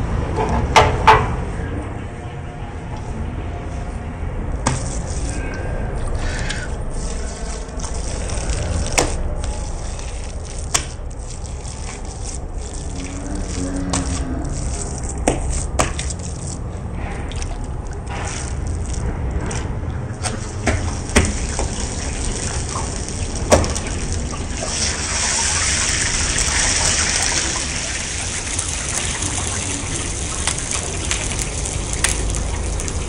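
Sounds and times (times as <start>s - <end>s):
low rumble with hiss: 0.0s - 33.0s.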